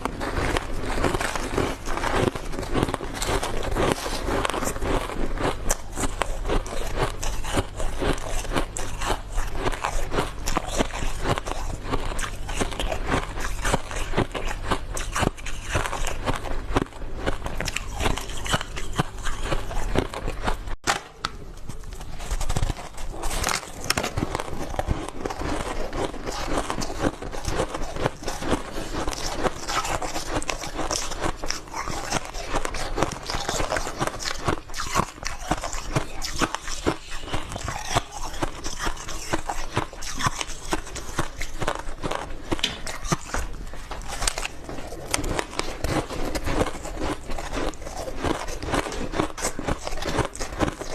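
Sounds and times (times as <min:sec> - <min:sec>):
chewing crunchy ice: 0:00.0 - 0:50.9.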